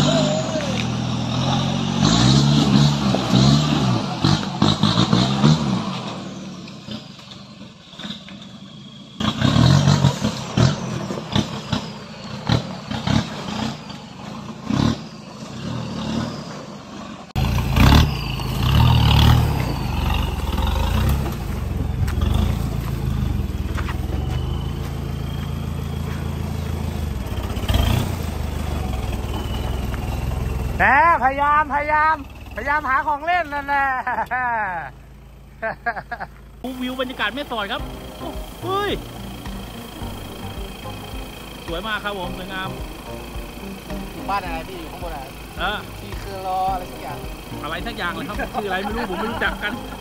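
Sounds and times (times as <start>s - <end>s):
pickup truck engine revving: 0.0s - 7.2s, 9.0s - 50.0s.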